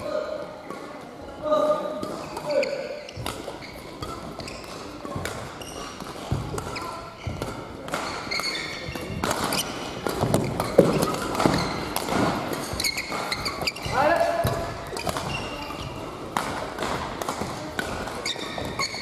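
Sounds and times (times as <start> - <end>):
shoes squeaking on court: 1.9 - 16.2, 17.6 - 19.0
racket striking shuttlecock: 1.9 - 19.0.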